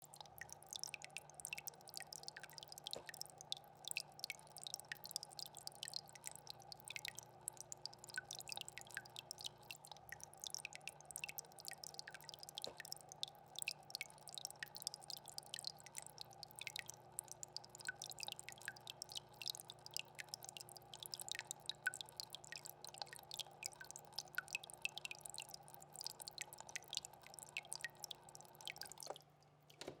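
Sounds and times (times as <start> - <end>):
tank pump hum: 0.0 - 30.0
water dripping and splashing: 0.0 - 30.0.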